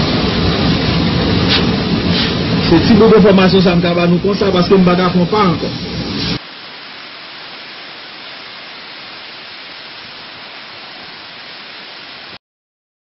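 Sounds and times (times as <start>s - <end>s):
hurricane wind and heavy rain: 0.0s - 12.4s.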